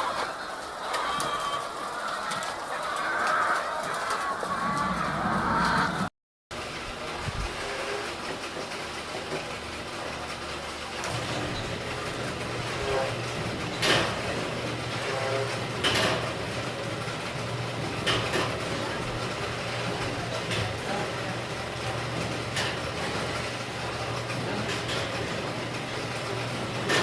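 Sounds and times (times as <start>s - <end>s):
feeding machine humming: 0.0s - 27.0s.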